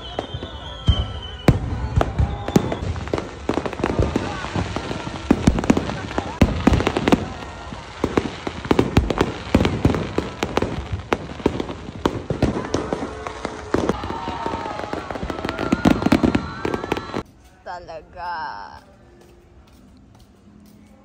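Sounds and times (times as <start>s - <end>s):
fireworks bangs and crackles: 0.0s - 17.3s.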